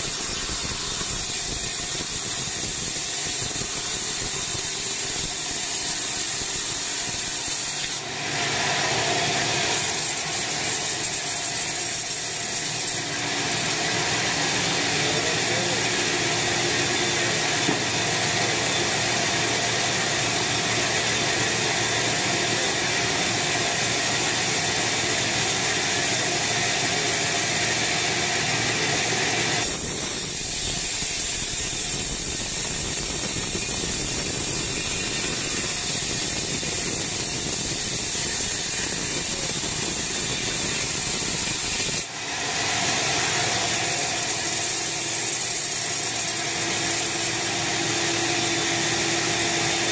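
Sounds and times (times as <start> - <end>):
band sawmill sawing log: 0.0 - 49.9.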